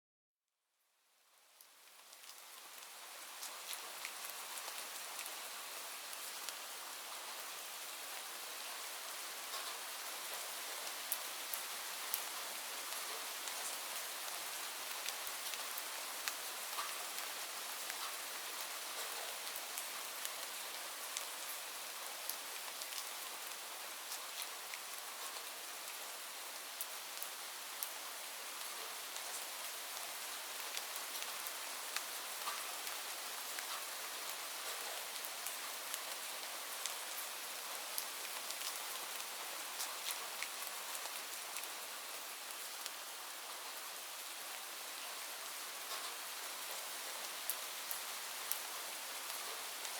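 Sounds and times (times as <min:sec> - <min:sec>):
steady rain hiss: 0:01.0 - 0:49.9
raindrops ticking on surfaces: 0:01.4 - 0:49.9.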